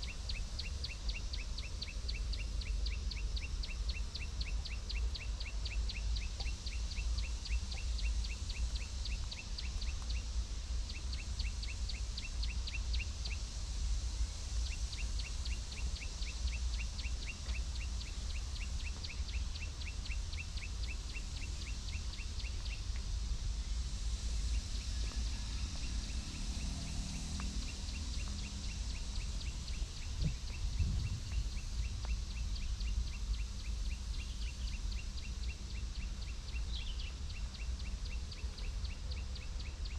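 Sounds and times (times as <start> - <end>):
low outdoor rumble: 0.0 - 39.9.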